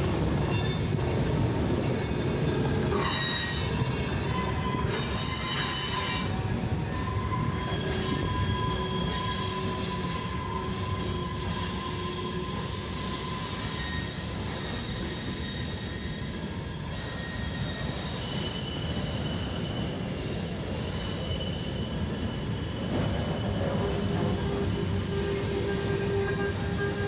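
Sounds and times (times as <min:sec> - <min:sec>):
steel wheels rumbling on rail: 0:00.0 - 0:27.0
high wheel squeals: 0:00.4 - 0:27.0.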